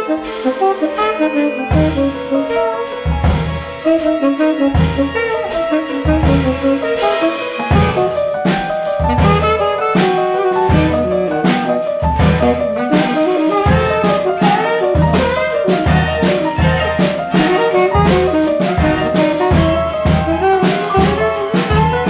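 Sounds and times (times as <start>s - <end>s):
bass notes: 0.0s - 22.0s
drum kit: 0.0s - 22.0s
tenor saxophone melody: 0.0s - 22.0s.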